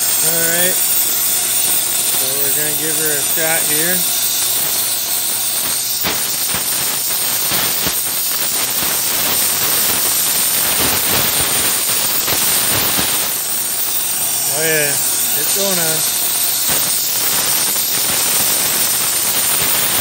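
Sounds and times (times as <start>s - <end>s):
crackling in flame: 0.0s - 20.0s
torch flame hissing: 0.0s - 20.0s.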